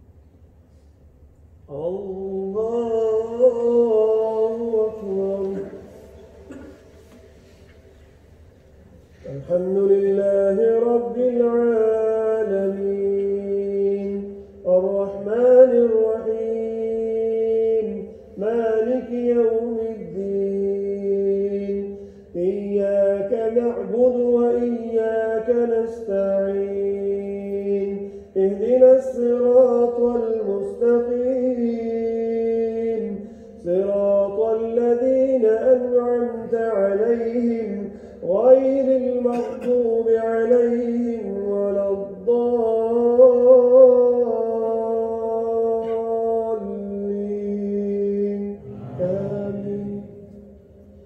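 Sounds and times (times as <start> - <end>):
man chanting melodically: 1.7 - 6.9, 9.2 - 50.6.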